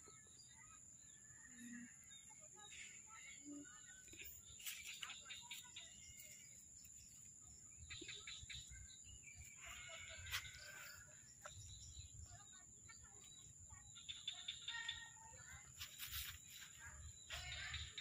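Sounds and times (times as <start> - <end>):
faint bird chirping: 0.0 - 18.0.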